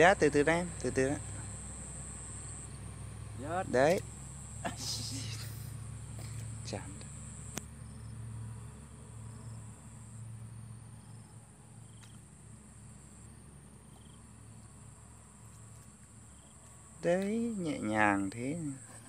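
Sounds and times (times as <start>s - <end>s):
faint low hum: 0.0s - 19.0s
insects chirring: 0.0s - 19.0s.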